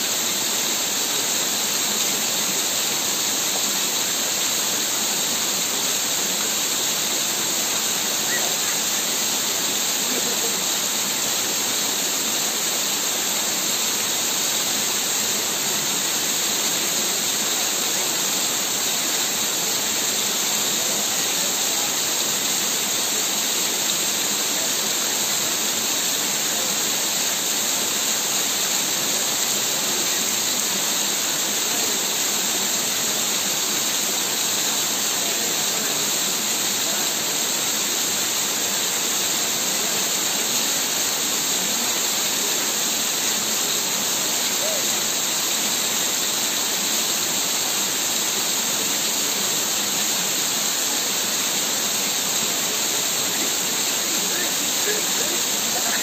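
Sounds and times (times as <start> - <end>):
waterfall pouring onto rock: 0.0 - 56.0.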